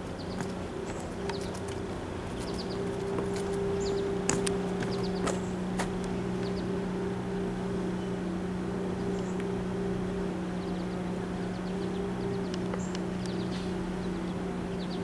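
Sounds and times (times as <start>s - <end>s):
low hum of trains: 0.0s - 15.0s.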